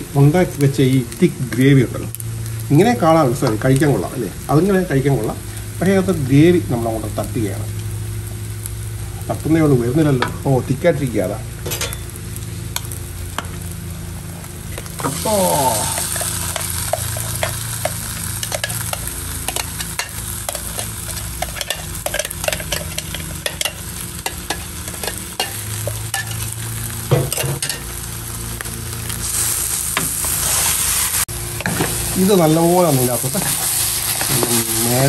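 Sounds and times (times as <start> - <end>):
meat sizzling in a frying pan: 0.0 - 35.0.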